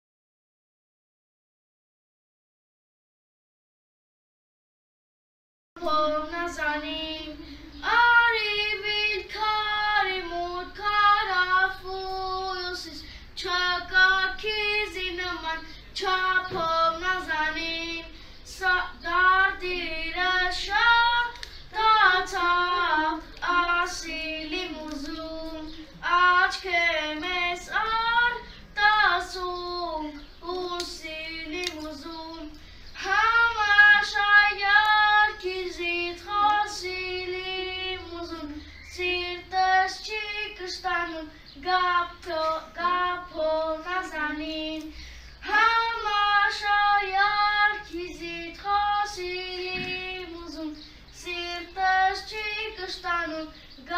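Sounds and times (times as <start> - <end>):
boy singing unaccompanied: 5.8 - 53.9.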